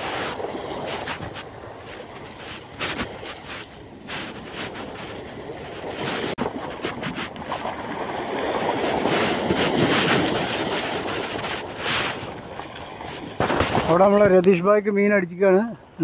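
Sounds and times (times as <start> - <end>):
waves washing against rocky shore: 0.0 - 14.2
wind buffeting microphone: 0.0 - 14.8.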